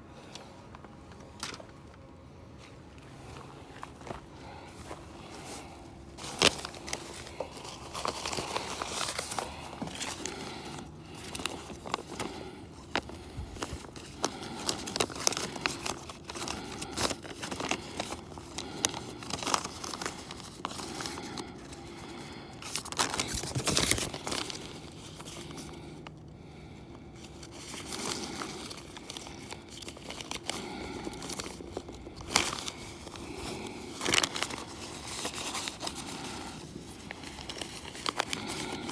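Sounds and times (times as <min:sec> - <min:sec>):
rustling and crinkling: 0:00.1 - 0:38.9.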